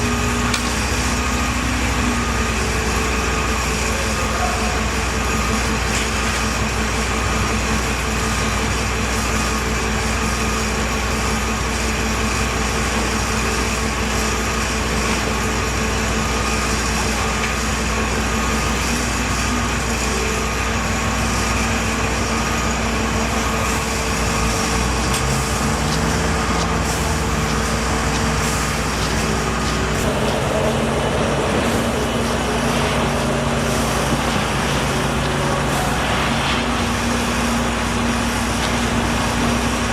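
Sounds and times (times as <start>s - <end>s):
heavy engines running: 0.0s - 39.9s.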